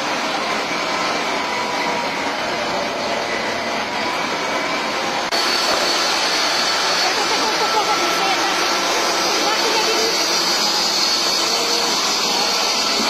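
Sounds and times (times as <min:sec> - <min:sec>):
high whine: 0:00.0 - 0:13.0
machinery running: 0:00.0 - 0:13.0.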